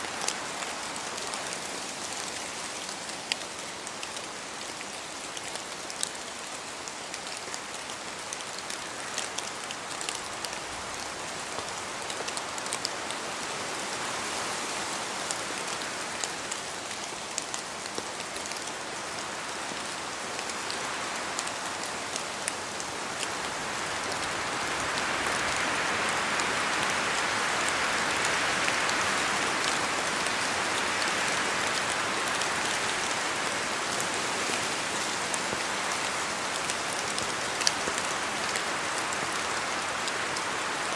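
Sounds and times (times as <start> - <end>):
steady rain in forest: 0.0 - 40.9.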